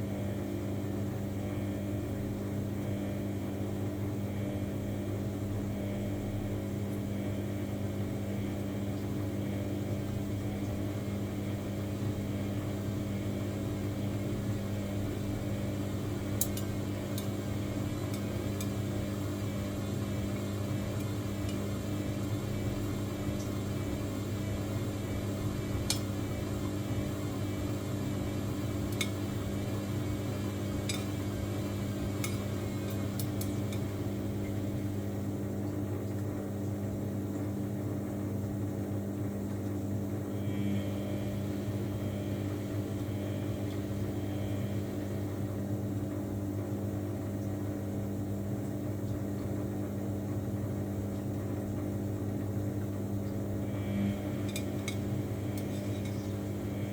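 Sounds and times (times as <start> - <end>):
washing machine motor hum: 0.0 - 56.9.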